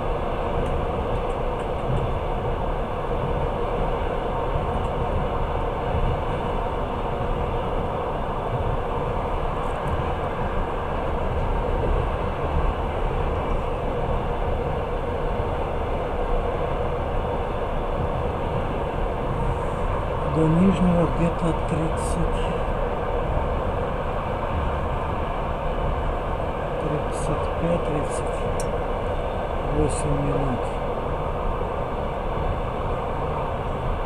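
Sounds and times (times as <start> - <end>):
train wheels on rails: 0.0 - 34.0.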